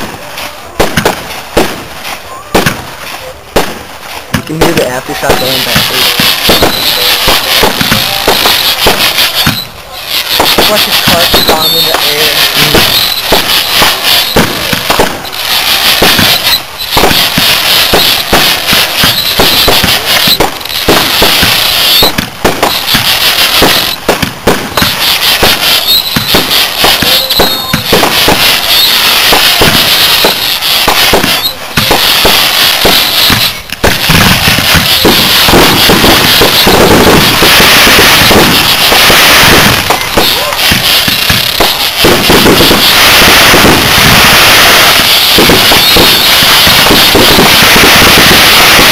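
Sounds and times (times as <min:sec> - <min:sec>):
firework crackling: 0:00.0 - 0:48.9
firework shells bursting: 0:00.0 - 0:48.9.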